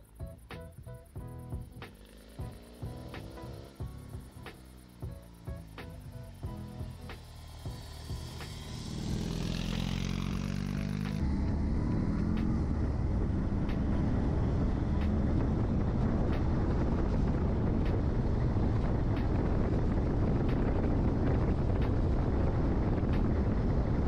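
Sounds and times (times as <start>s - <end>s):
motorcycle engine rumble: 0.0s - 24.0s.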